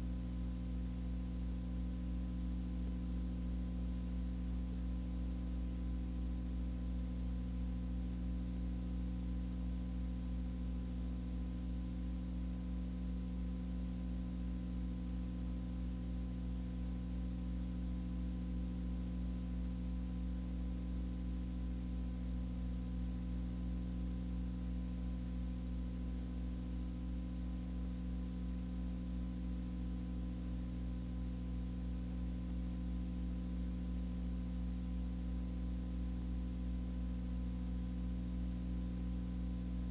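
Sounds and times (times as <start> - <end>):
low hum of held tones: 0.0 - 39.9.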